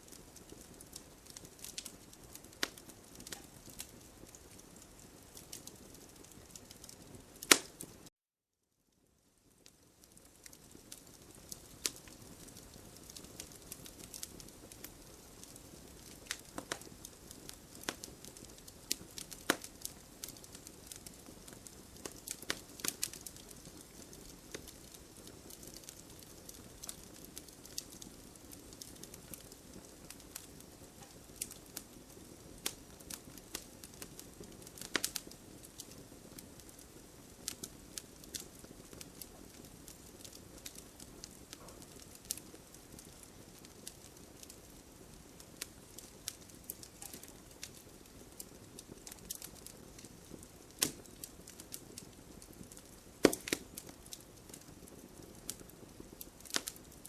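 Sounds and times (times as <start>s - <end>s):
campfire crackling and popping: 0.0s - 8.1s, 9.5s - 57.0s.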